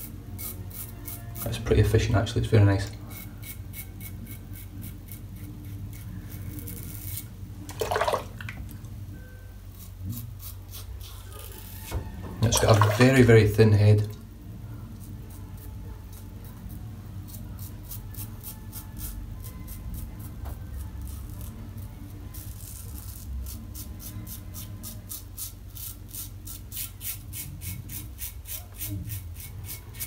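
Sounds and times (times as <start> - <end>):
razor scraping stubble: 0.0 - 7.4, 9.7 - 13.6, 14.9 - 30.0.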